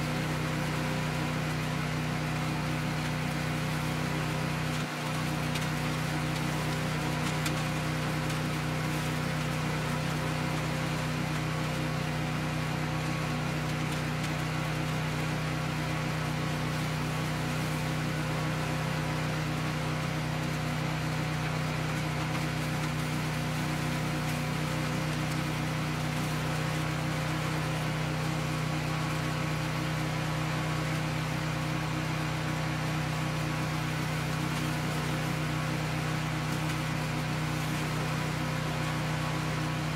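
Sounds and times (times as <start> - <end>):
composter shredding leaves: 0.0 - 39.9
tractor engine droning: 0.0 - 39.9.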